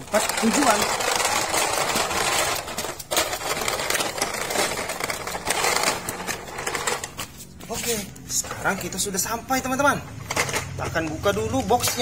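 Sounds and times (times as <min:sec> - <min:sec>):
toy cars rattling: 0:00.0 - 0:12.0
toy truck wheels rolling on concrete: 0:00.0 - 0:12.0.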